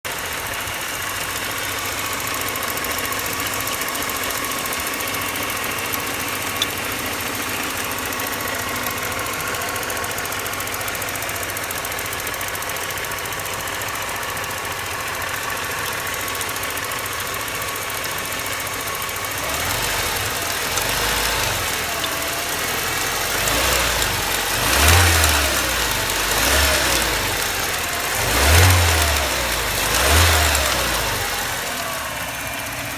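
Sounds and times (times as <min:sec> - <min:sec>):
car engine idling with ticking: 0:00.0 - 0:32.9
engine revving: 0:00.1 - 0:32.9.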